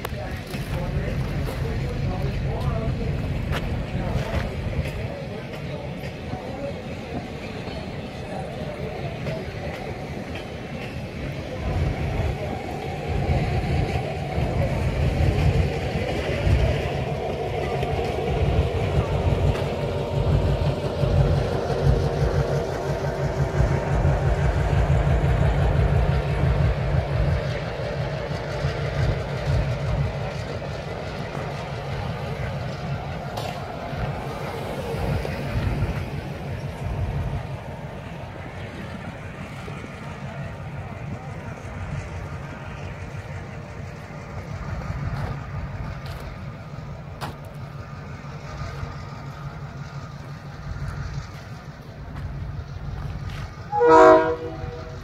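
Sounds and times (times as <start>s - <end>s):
diesel locomotive engine rumbling: 0.0s - 55.0s
wind buffeting microphone: 0.0s - 55.0s.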